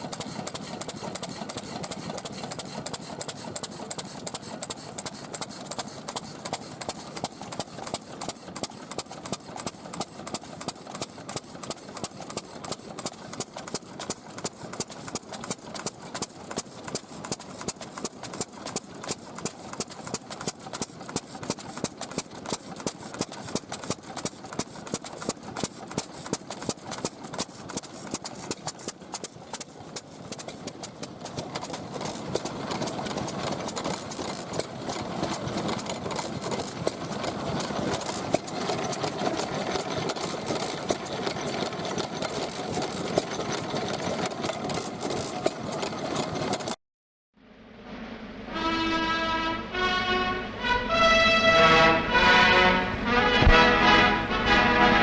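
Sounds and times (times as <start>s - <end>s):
stationary engine exhaust beat: 0.0s - 40.9s, 47.8s - 55.0s
steady engine sound: 0.0s - 46.8s, 47.4s - 55.0s.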